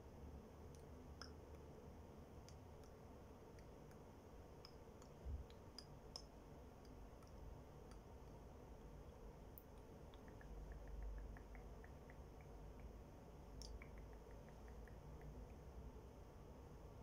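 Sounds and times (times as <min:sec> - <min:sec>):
faint small clicks and ticks: 0:00.6 - 0:01.8, 0:02.4 - 0:15.9.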